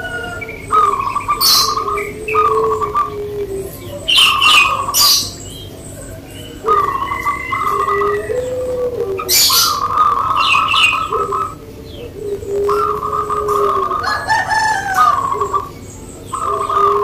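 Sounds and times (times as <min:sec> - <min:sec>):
dove cooing: 0:00.0 - 0:17.0
small birds chirping: 0:00.0 - 0:17.0.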